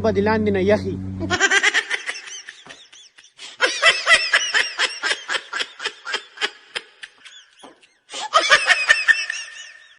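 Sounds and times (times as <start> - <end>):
high-pitched laughter: 1.2 - 9.9.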